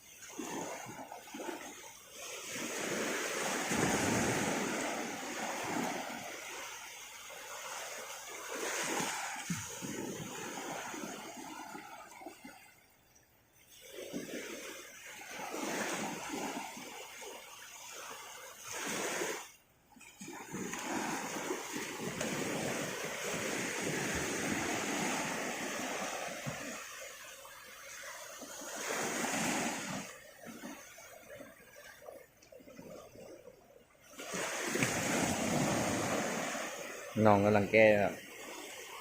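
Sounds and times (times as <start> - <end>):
shallow sea water splashing: 0.0 - 39.0.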